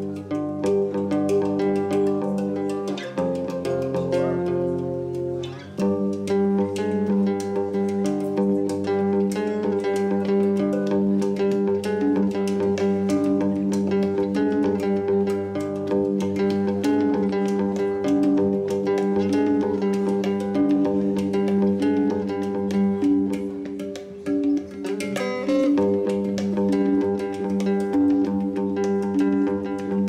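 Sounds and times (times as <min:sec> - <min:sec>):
guitar picking notes: 0:00.0 - 0:30.0.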